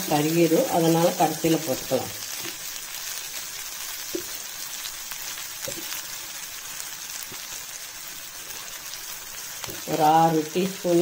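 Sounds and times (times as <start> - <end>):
frying hiss in oil: 0.0 - 11.0.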